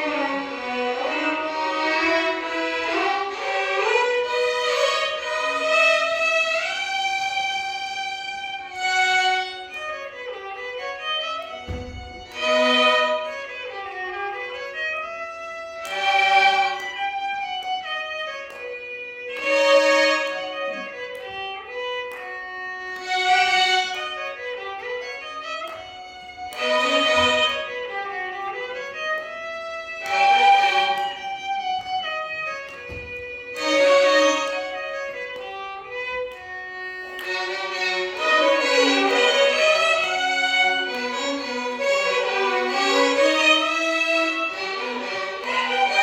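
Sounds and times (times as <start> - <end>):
violin ensemble playing melody: 0.0 - 46.0.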